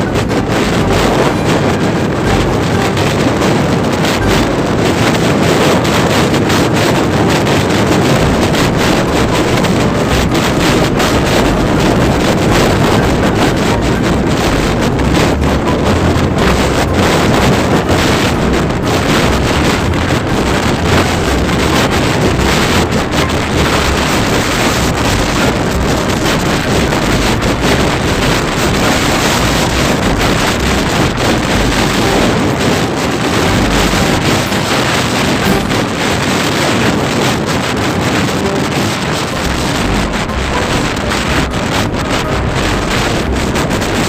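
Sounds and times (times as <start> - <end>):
motorcycle engine rumble: 0.0 - 44.0
road noise: 0.0 - 44.0
wind rushing over microphone: 0.0 - 44.0.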